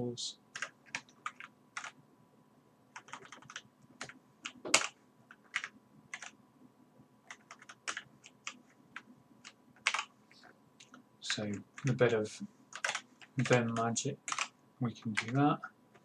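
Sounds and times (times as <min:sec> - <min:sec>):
keyboard typing: 0:00.5 - 0:02.0, 0:03.0 - 0:06.4, 0:07.3 - 0:12.1, 0:12.7 - 0:16.0.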